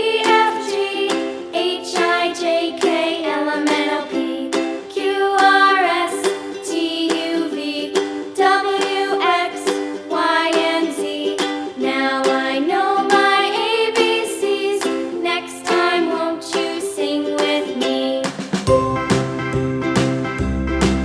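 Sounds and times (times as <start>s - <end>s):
plucked string music: 0.0s - 21.0s.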